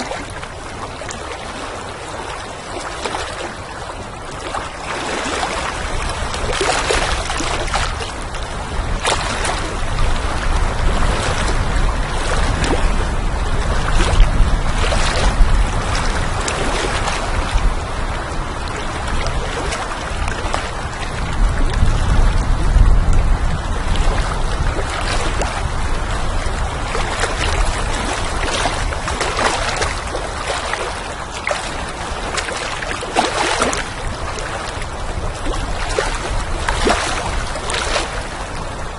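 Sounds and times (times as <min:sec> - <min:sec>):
low wind rumble: 0:00.0 - 0:38.9
water lapping: 0:00.0 - 0:38.9.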